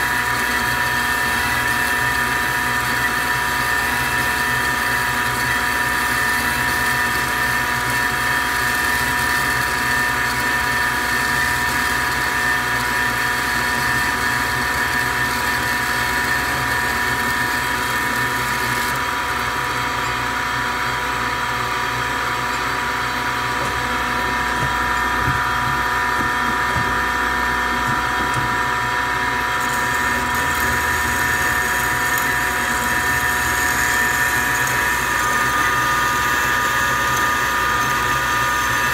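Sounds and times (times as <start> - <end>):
band saw droning: 0.0 - 38.9.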